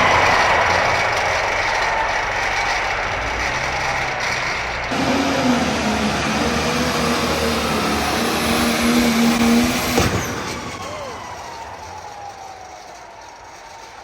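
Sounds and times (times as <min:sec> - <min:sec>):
diesel engine screaming at full throttle: 0:00.0 - 0:13.9.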